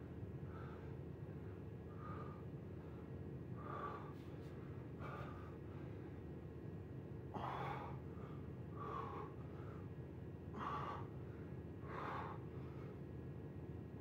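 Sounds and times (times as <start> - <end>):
man breathing hard: 0.4 - 6.2, 7.3 - 13.1.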